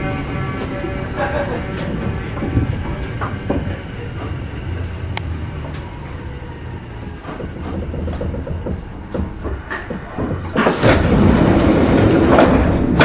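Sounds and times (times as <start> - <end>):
low hum of train equipment: 0.0 - 13.0.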